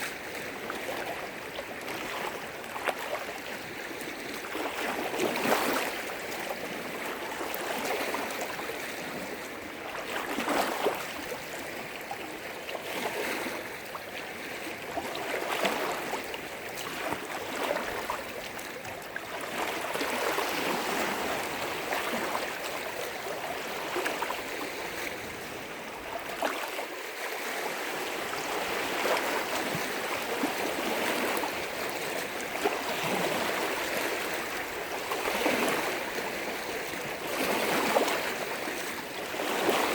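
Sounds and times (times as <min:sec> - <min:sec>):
waves splashing against shore: 0:00.0 - 0:39.9.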